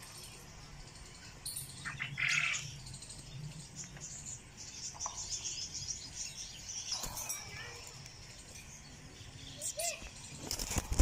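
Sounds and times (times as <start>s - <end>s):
parakeets squawking and chirping: 1.7s - 11.0s.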